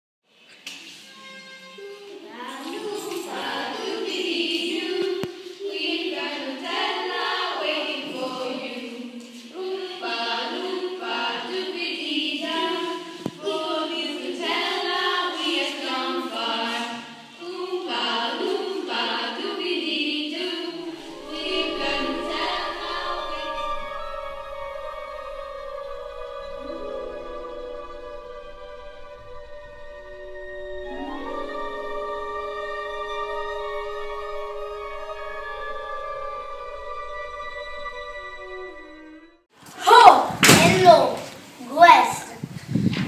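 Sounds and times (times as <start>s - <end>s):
choir singing with music: 1.1s - 39.9s.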